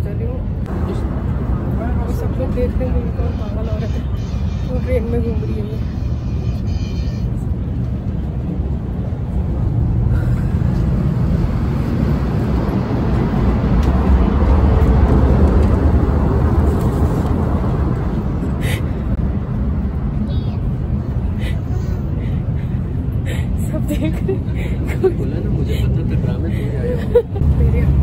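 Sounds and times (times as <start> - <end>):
moving train rumble: 0.0 - 28.0.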